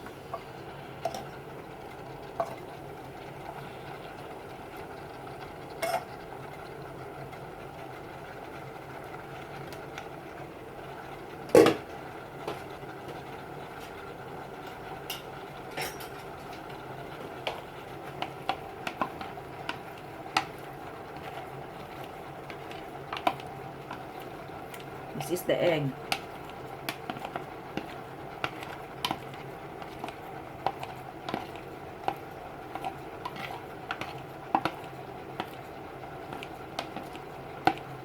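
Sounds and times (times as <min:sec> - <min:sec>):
steady hiss of frying: 0:00.0 - 0:38.0.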